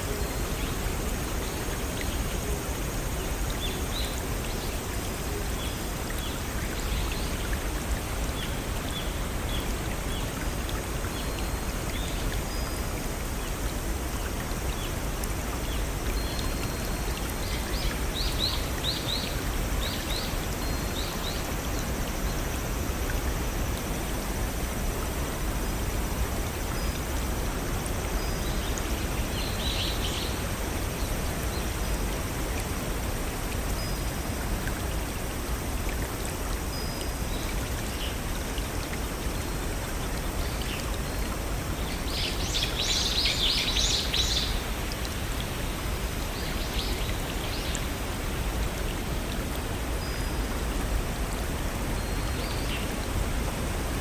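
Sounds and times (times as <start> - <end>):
brook rushing over waterfalls: 0.0 - 54.0.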